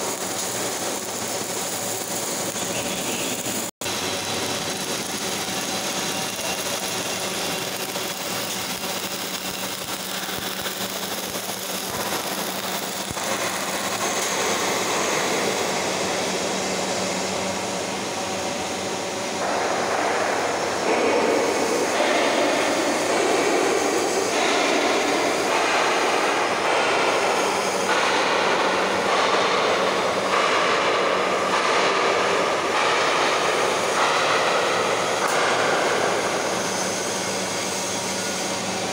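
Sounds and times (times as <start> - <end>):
crackling hissing welding arc: 0.0 - 38.9
factory noise: 0.0 - 38.9.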